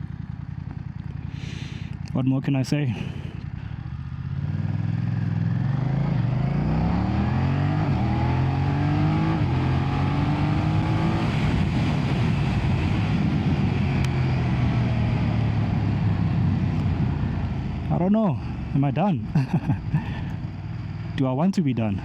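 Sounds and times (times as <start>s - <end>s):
motorcycle engine accelerating: 3.0s - 21.3s.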